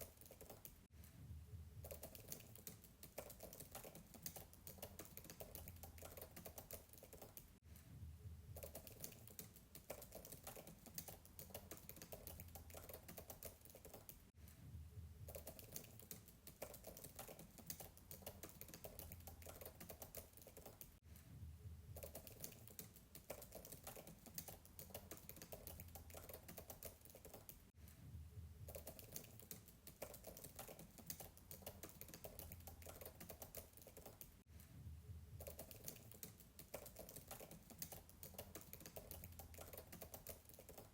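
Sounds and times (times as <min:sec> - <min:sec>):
faint fast keyboard typing: 0:00.0 - 0:00.9, 0:01.8 - 0:07.6, 0:08.5 - 0:14.3, 0:15.2 - 0:21.0, 0:21.9 - 0:27.7, 0:28.6 - 0:34.4, 0:35.3 - 0:40.9.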